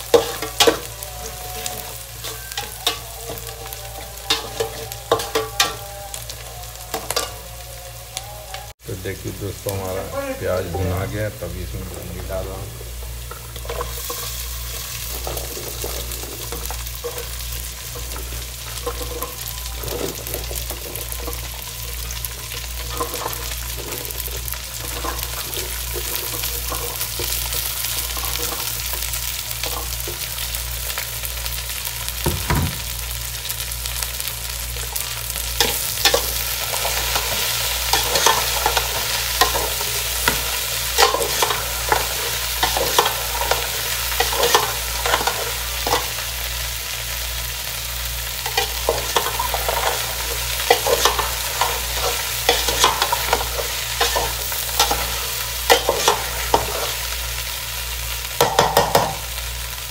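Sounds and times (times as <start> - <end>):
vegetables sizzling in pot: 0.0 - 59.9.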